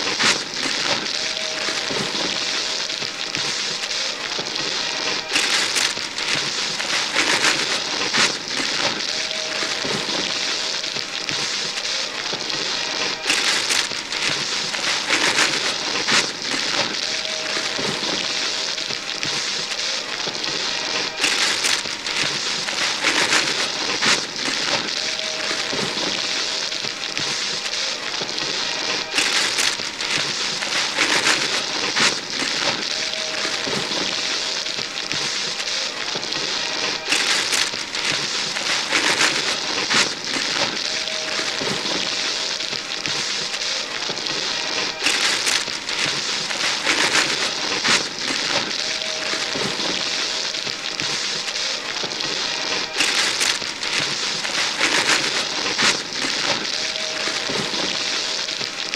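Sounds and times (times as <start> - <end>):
paper tearing: 0.0 - 58.9
wrapping paper rustling: 0.0 - 58.9.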